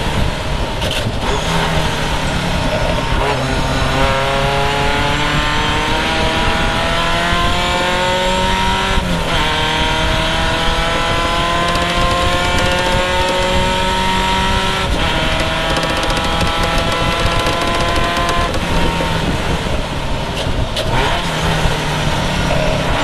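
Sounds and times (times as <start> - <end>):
race car engine accelerating: 0.9 - 20.2.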